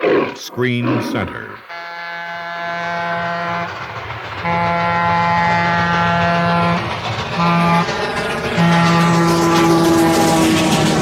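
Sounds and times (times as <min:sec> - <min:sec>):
buzzy horn tone blasts: 0:01.6 - 0:11.0.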